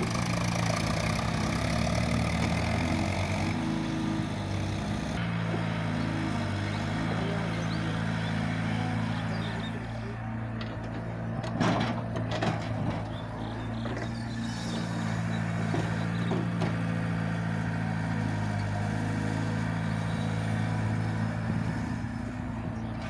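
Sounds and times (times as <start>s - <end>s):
excavator diesel engine: 0.0s - 23.0s
tractor engine running: 0.0s - 23.0s.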